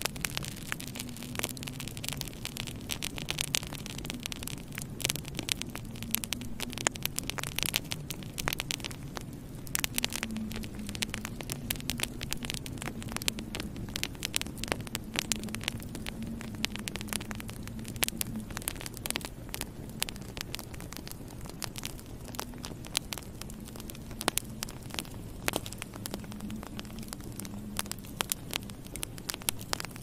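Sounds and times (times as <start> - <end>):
steady low hum: 0.0 - 30.0
wood fire crackling and popping: 0.0 - 30.0.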